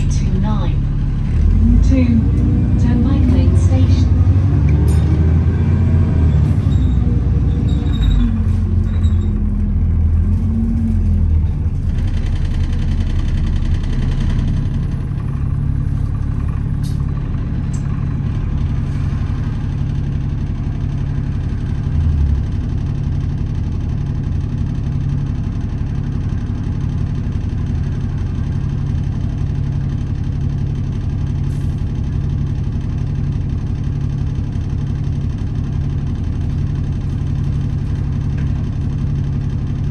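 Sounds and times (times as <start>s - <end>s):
bus engine slowing: 0.0s - 39.9s
diesel engine idling: 0.0s - 39.9s.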